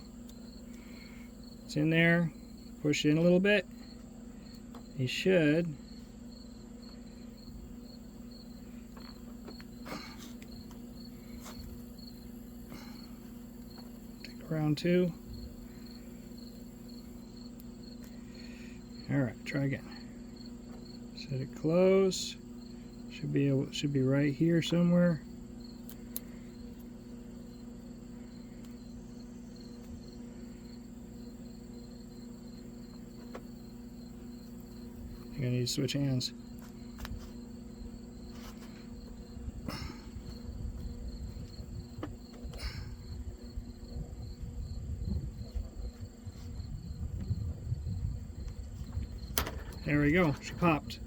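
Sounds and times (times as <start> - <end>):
cricket chirping: 0.0 - 51.0
steady low hum: 0.0 - 51.0.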